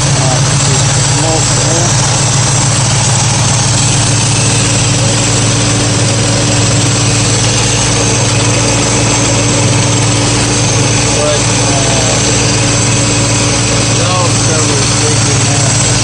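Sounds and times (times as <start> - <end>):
car engine idling: 0.0 - 16.0
electric radiator fan humming: 0.0 - 16.0.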